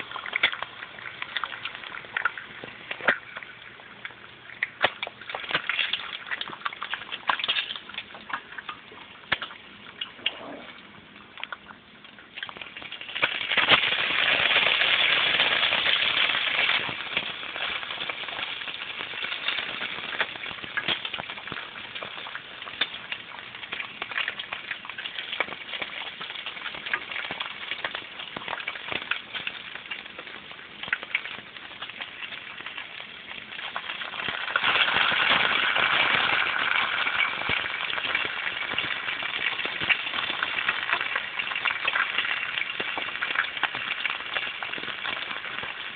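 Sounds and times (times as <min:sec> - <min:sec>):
bacon sizzling in a frying pan: 0:00.0 - 0:10.6, 0:11.3 - 0:45.9.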